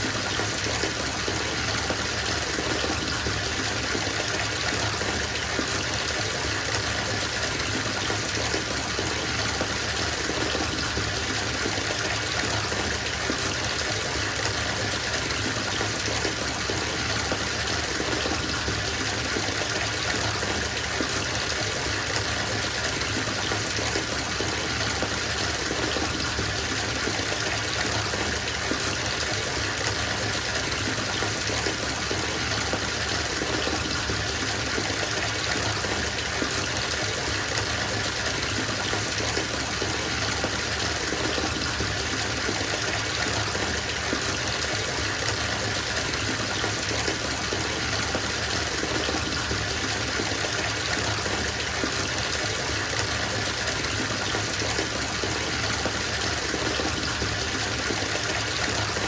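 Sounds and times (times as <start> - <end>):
water running into bathtub: 0.0 - 59.0.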